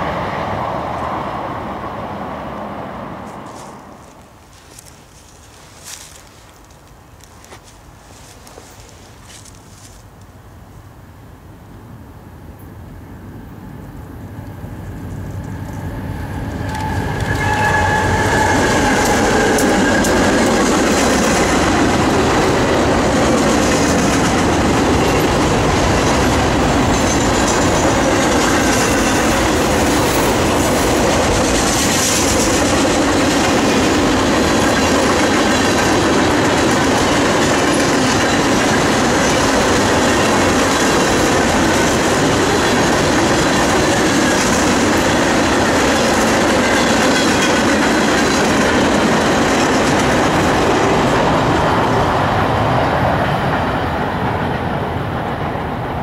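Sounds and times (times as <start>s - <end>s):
freight train rumbling past: 0.0s - 9.9s, 10.8s - 56.0s.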